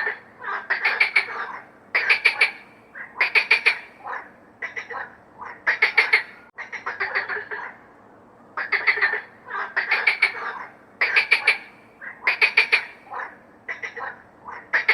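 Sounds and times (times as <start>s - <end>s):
frog rattling croaks: 0.0s - 7.7s, 8.6s - 14.9s.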